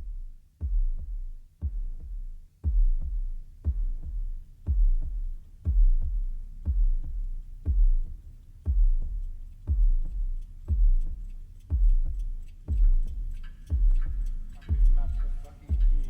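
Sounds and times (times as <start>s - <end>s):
electronic music with heartbeat thump: 0.0s - 16.0s.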